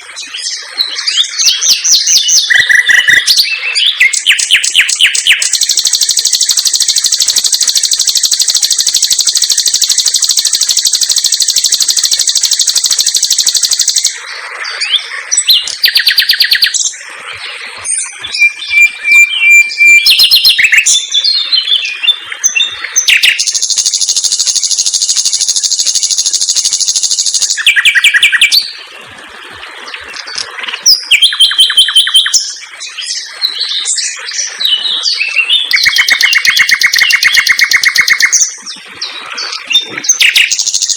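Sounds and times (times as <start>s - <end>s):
songbird trilling and chirping: 0.4s - 17.0s, 17.8s - 28.8s, 30.6s - 40.9s.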